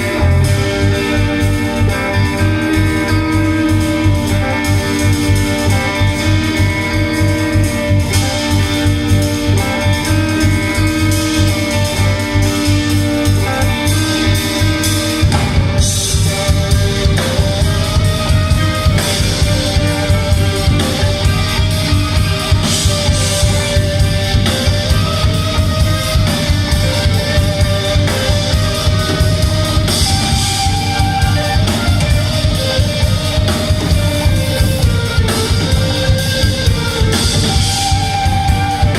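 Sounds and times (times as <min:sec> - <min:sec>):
bass line: 0:00.0 - 0:38.9
drum kit beat: 0:00.0 - 0:38.9
guitars: 0:00.0 - 0:38.9.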